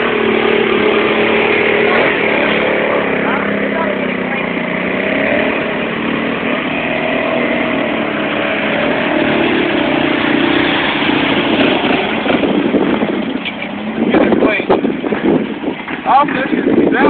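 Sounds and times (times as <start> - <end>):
quad engines revving: 0.0 - 17.0.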